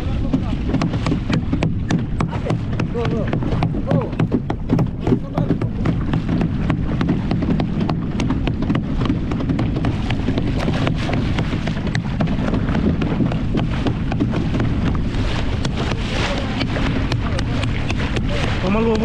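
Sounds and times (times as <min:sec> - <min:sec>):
boat engine rumble: 0:00.0 - 0:19.0
water rushing and splashing: 0:00.0 - 0:19.0
wind on microphone: 0:00.0 - 0:19.0.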